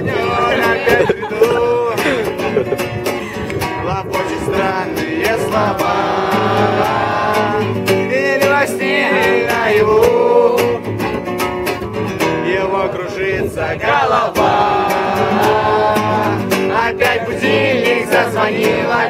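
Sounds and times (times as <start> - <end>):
people singing: 0.0 - 2.7, 4.0 - 11.1, 12.2 - 19.0
acoustic guitar strumming: 0.0 - 19.0.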